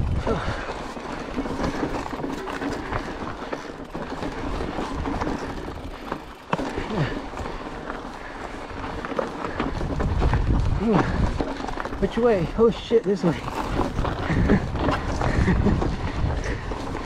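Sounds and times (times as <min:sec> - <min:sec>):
bike chain rattling: 0:00.0 - 0:17.0
tyres crunching over gravel: 0:00.0 - 0:17.0.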